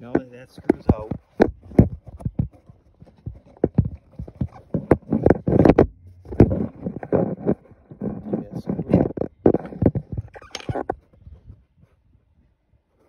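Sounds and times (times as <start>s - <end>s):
phone handling noise: 0.0s - 11.0s
hands handling metal parts: 0.0s - 11.1s.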